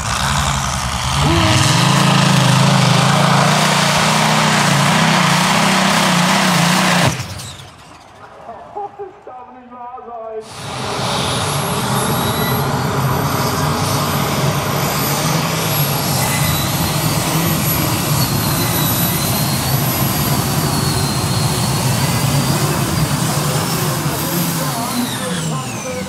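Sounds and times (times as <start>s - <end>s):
tractor engine at full power: 0.0s - 9.4s, 10.3s - 26.0s
high engine whine: 0.0s - 26.0s.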